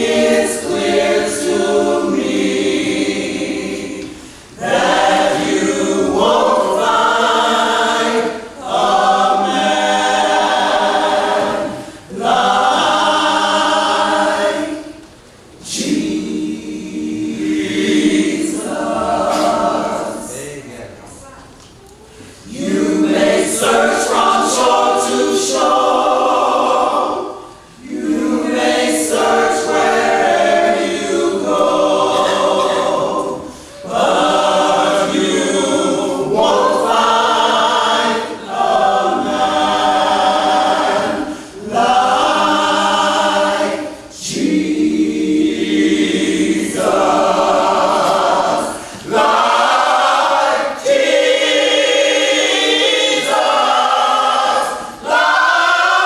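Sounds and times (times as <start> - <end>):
gospel choir singing a cappella: 0.0 - 21.0, 22.1 - 56.0.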